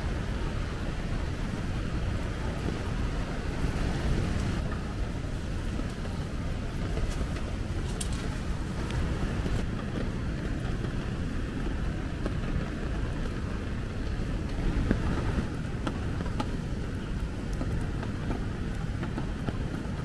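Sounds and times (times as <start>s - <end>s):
rain hissing: 0.0s - 20.0s
wind rumble: 0.0s - 20.0s.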